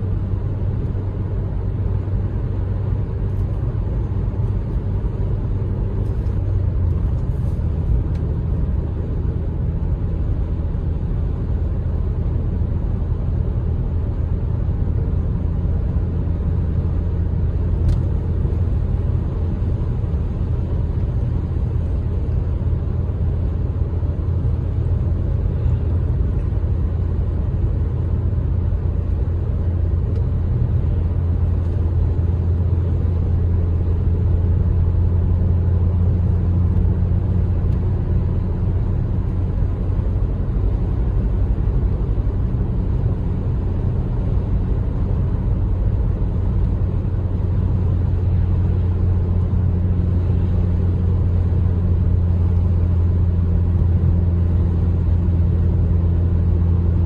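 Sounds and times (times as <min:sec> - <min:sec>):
car engine droning in cabin: 0:00.0 - 0:57.0.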